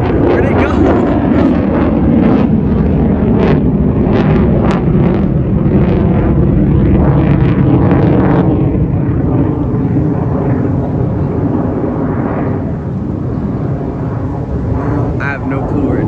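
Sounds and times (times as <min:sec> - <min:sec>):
jet aircraft flying past: 0:00.0 - 0:16.0.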